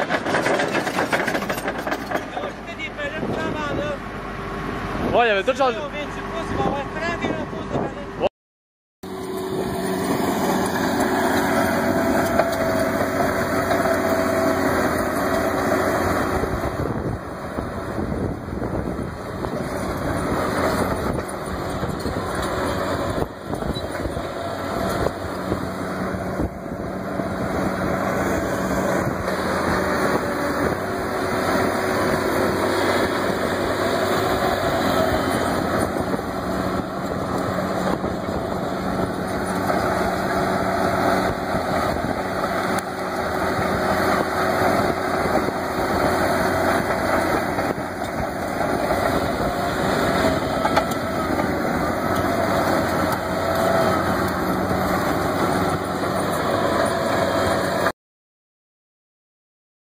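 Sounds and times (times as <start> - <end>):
diesel engine running under load: 0.0 - 8.3, 9.0 - 57.9.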